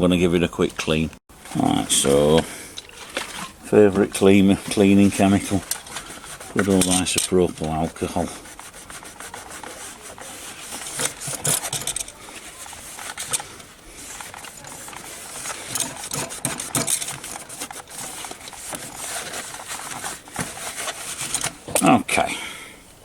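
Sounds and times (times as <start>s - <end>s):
rubbing and scrubbing strokes: 1.3s - 22.1s.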